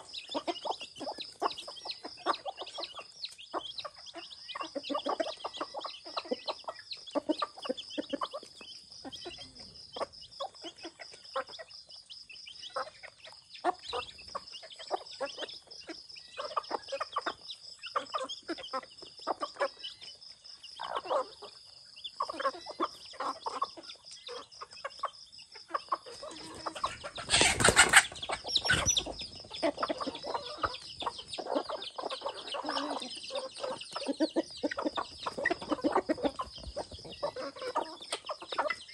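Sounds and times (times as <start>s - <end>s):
chickens calling: 0.0s - 38.9s.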